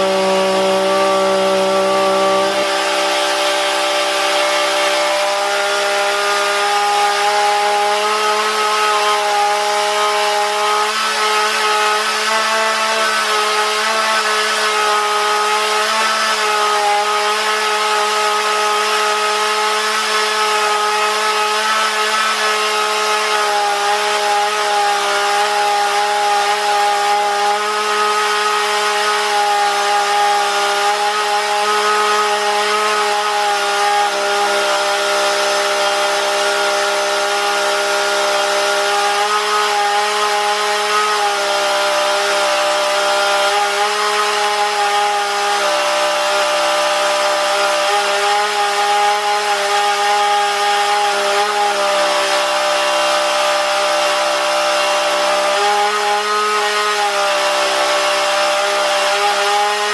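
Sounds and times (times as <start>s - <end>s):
chainsaw engine revving high: 0.0s - 59.9s.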